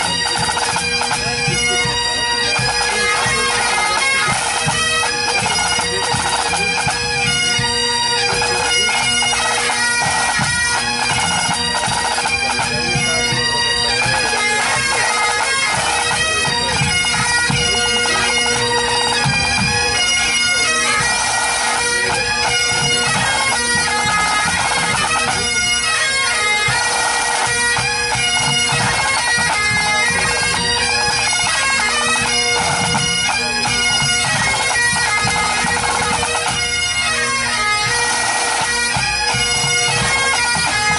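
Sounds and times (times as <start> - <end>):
bagpipes playing: 0.0 - 40.9
drums beating: 0.0 - 40.9.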